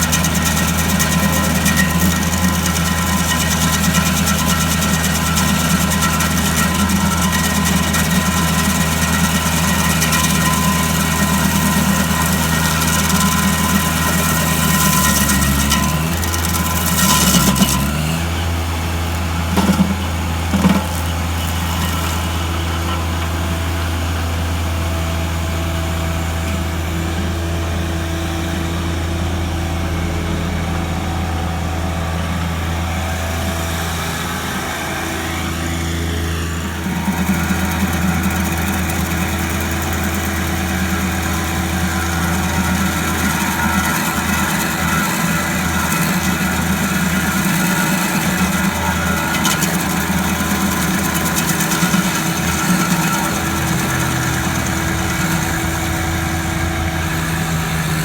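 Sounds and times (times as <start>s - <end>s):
gasoline engine running: 0.0s - 58.0s.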